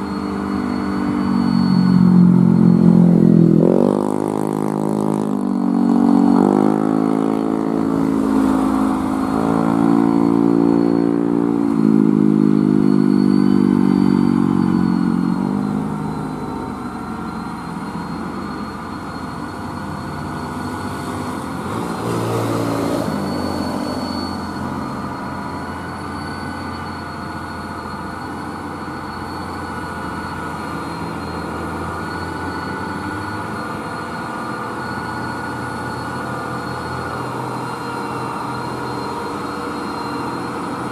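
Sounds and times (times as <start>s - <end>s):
heavy diesel truck engines roaring: 0.0s - 40.9s.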